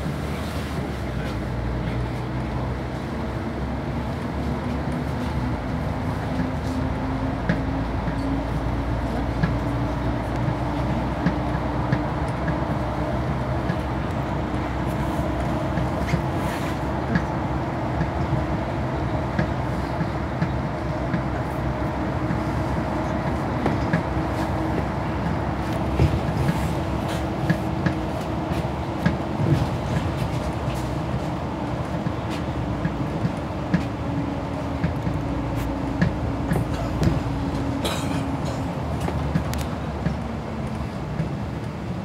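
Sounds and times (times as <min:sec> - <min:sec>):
bus engine and road hum: 0:00.0 - 0:42.0.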